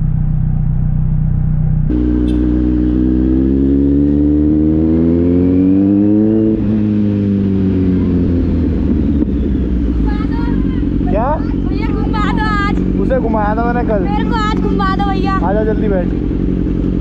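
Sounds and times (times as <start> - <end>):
motorcycle engine pulling away: 1.9 - 17.0.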